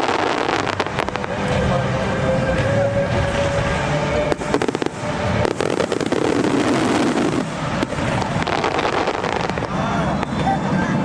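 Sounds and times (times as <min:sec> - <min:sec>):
fireworks crackling and popping: 0:00.0 - 0:10.5
continuous rumbling: 0:00.0 - 0:11.0.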